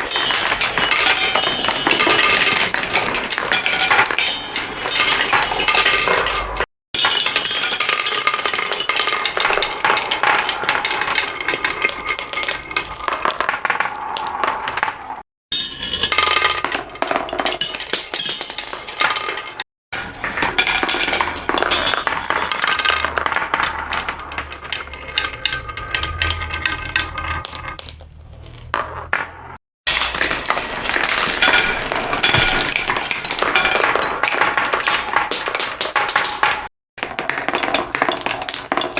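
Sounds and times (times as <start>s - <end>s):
marbles clattering through marble run: 0.0s - 38.9s.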